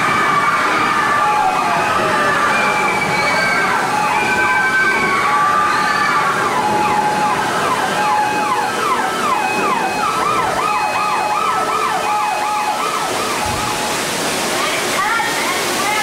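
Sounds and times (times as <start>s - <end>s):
warbling siren: 0.0s - 14.2s
emergency sirens wailing: 0.0s - 16.0s
rushing flood water: 0.0s - 16.0s.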